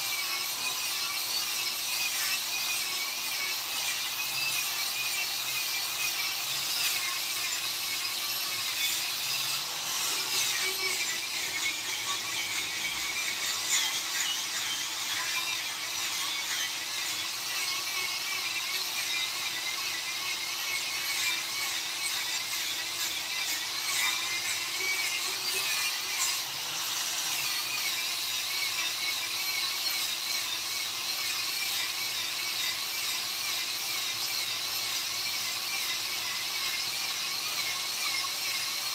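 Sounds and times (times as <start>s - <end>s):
power tool grinding wood: 0.0s - 38.9s.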